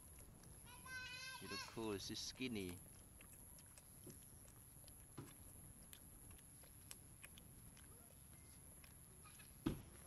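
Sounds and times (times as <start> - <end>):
monkey sucking from bottle: 0.0 - 10.0.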